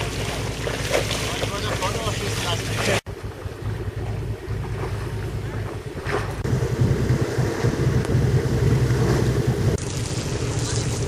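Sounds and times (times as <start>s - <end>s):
ship motor droning: 0.0s - 11.0s
wind rumbling on microphone: 0.0s - 11.0s.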